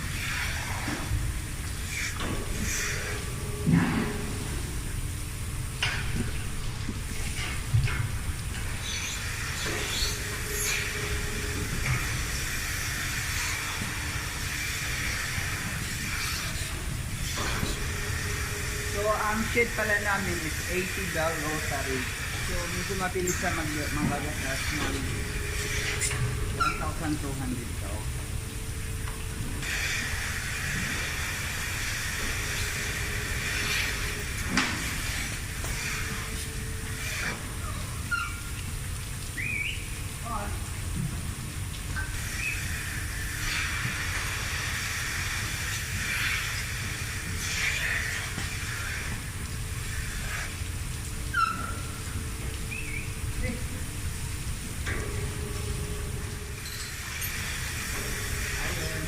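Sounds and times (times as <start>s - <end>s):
milking machinery hiss and rumble: 0.0s - 59.0s.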